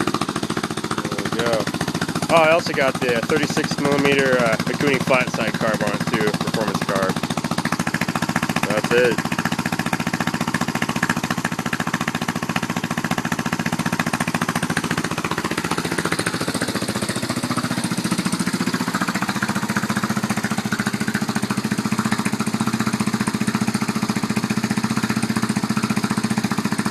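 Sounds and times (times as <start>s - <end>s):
quad engine idling: 0.0s - 26.9s.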